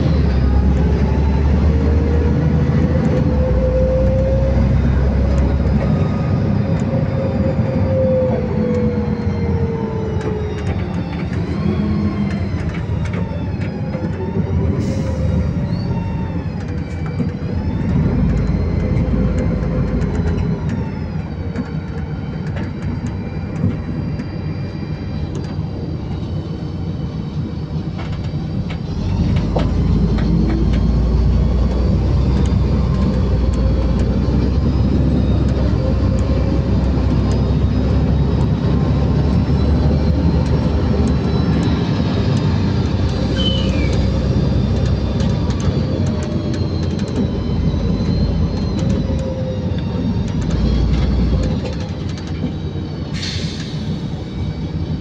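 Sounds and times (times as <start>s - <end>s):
bus engine and road rumble: 0.0s - 55.0s
drivetrain whine: 0.0s - 55.0s.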